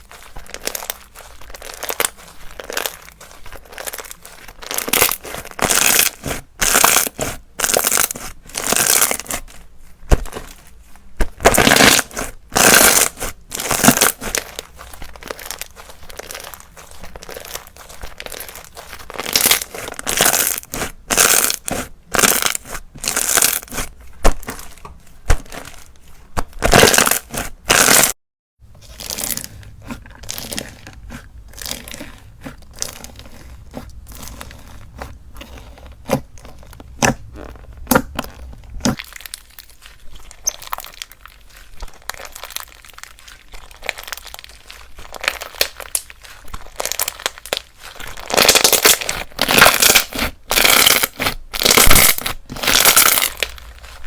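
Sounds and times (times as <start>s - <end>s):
slime squelching and crackling: 0.0s - 54.0s.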